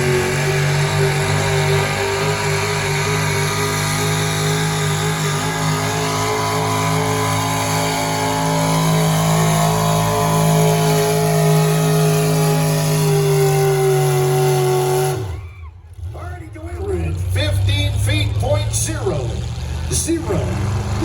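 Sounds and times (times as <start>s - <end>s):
truck engine revving high: 0.0s - 21.0s.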